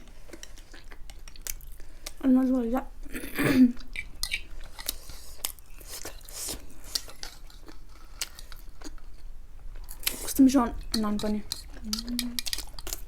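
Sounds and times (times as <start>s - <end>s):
close chewing of flatbread: 0.0s - 2.2s, 3.8s - 13.0s
mouth clicks and bread crackles: 0.2s - 2.3s, 3.8s - 13.0s.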